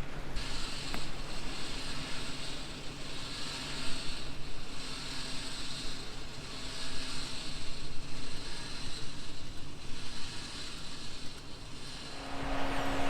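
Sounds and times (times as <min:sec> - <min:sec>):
hiss: 0:00.3 - 0:13.0.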